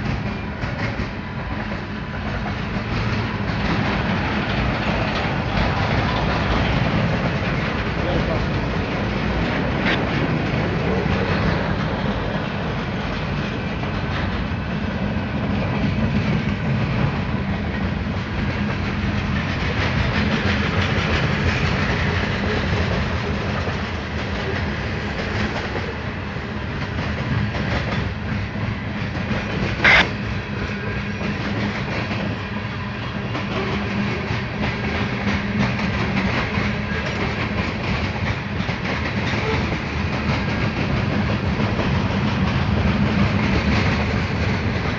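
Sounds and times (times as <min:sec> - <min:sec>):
freight train wheels clicking: 0:00.0 - 0:44.9.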